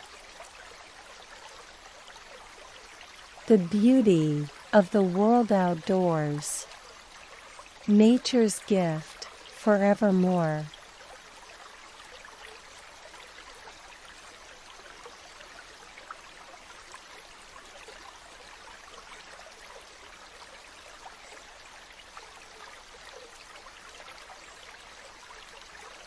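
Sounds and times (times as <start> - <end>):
stream water running: 0.0 - 26.0.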